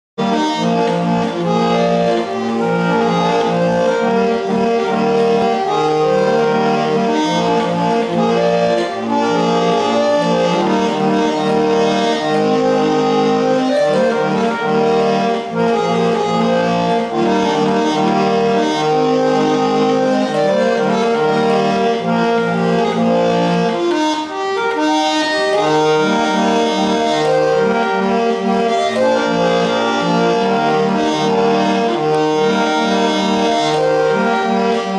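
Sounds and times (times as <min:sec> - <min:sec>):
barrel organ playing a tune: 0:00.2 - 0:34.9.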